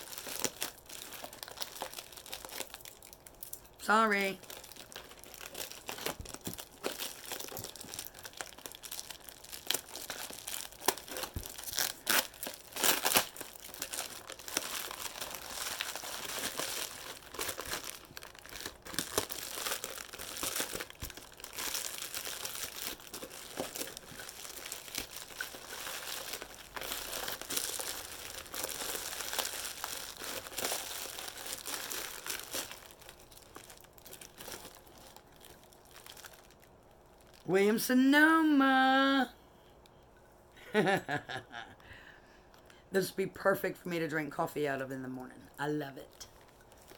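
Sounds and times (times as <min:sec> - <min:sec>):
packing wrap crinkling and tearing: 0:00.0 - 0:38.1, 0:46.0 - 0:46.9.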